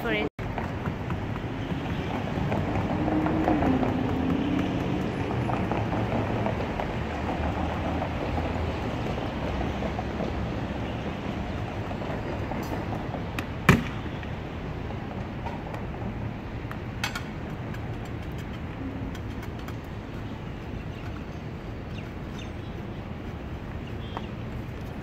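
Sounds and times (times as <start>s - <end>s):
steady outdoor hum: 0.0s - 25.0s.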